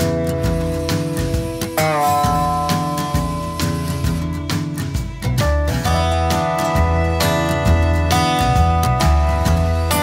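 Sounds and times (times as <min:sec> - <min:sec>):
guitar tune over a beat: 0:00.0 - 0:10.0.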